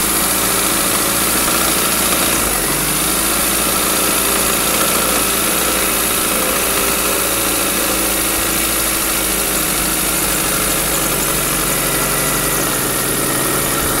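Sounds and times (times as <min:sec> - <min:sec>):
car engine idling with knock: 0:00.0 - 0:14.0.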